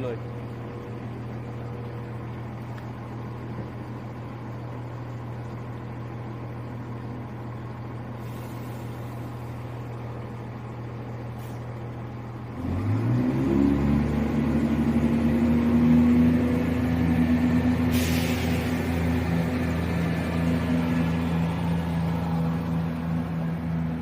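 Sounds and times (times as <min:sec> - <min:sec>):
diesel train engines running: 0:00.0 - 0:24.0.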